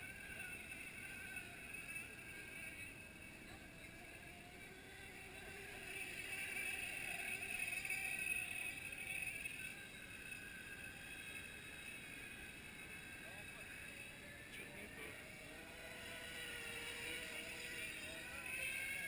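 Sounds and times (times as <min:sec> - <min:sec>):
model boat motor whining: 0:00.0 - 0:19.0.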